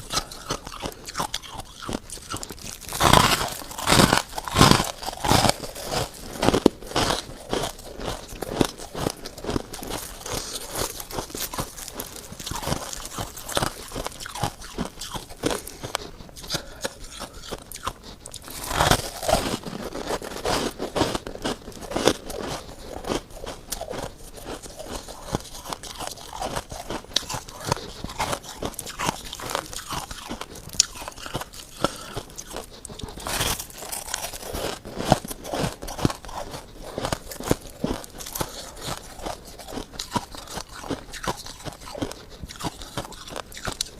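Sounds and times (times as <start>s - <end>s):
frost being chewed: 0.0s - 43.9s.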